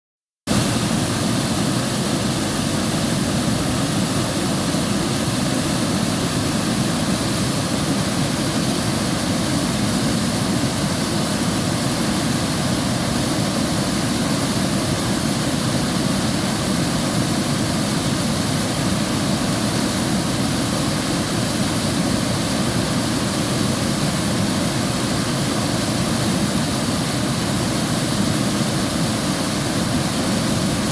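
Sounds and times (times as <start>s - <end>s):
river water rushing: 0.5s - 30.9s.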